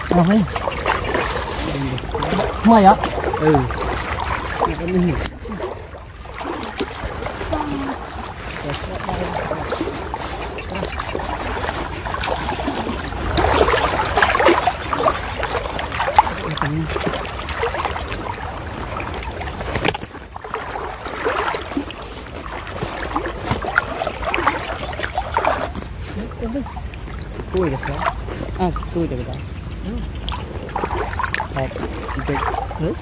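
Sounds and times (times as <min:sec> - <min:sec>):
water sloshing and splashing: 0:00.0 - 0:33.0.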